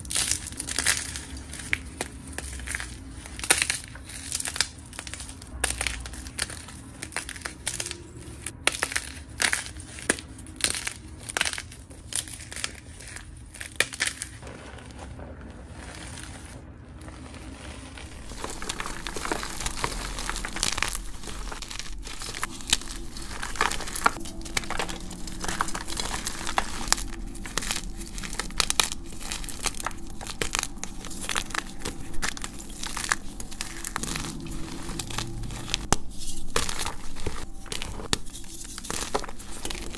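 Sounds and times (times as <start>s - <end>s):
chalk crunching and crackling: 0.0s - 39.9s.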